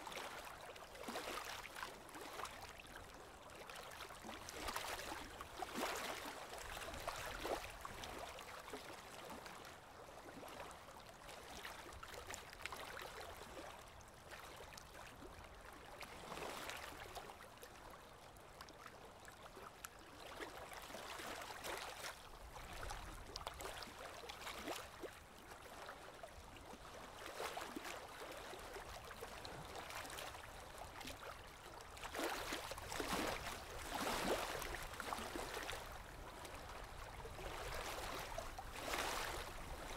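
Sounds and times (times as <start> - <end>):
small waves washing on shore: 0.0 - 17.9, 18.7 - 39.9.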